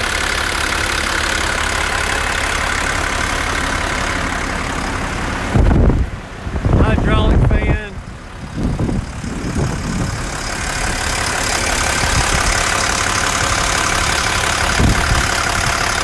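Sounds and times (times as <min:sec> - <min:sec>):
diesel engine running: 0:00.0 - 0:16.0
cooling fan whooshing: 0:02.8 - 0:16.0.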